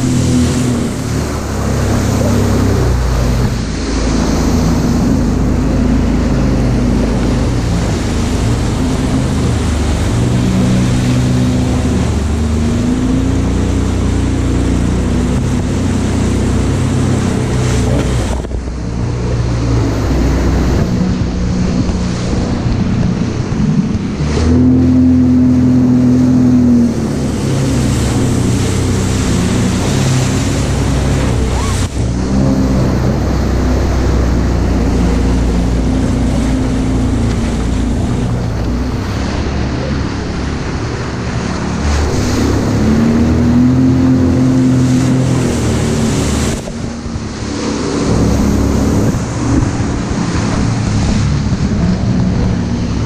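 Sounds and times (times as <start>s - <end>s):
jet ski engine revving: 0.0s - 53.0s
water spray rushing: 0.0s - 53.0s
wind on microphone: 0.0s - 53.0s.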